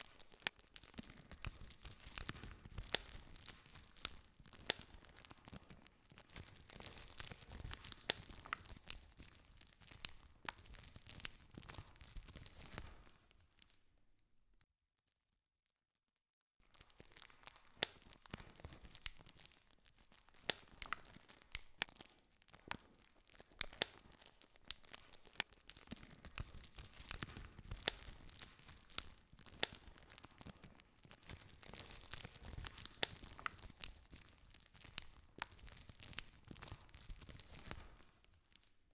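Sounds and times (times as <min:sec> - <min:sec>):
campfire crackling: 0:00.2 - 0:05.5, 0:06.4 - 0:13.2, 0:16.8 - 0:38.3.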